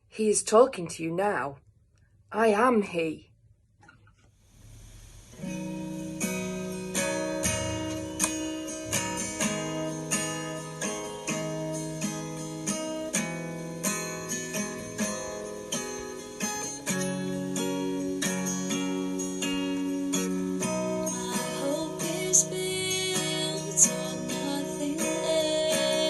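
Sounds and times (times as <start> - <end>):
acoustic guitar strumming: 4.5 - 26.0.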